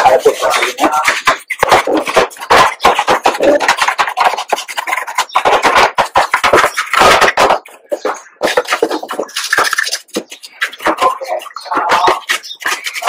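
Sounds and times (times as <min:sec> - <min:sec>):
scrubbing on wet plastic: 0:00.0 - 0:13.0.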